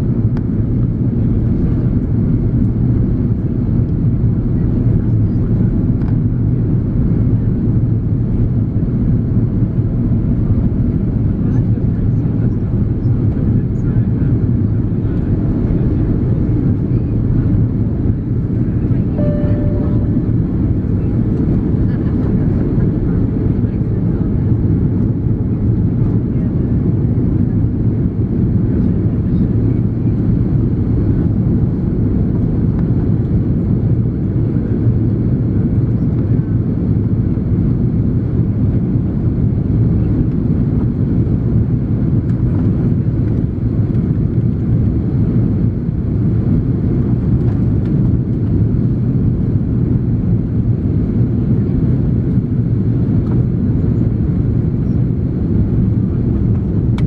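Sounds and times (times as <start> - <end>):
airplane cabin roar in flight: 0.0 - 57.0.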